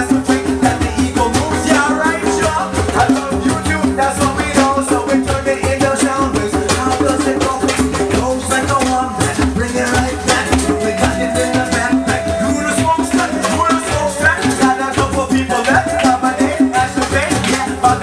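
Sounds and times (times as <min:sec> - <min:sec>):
shaken hand percussion: 0:00.0 - 0:18.0.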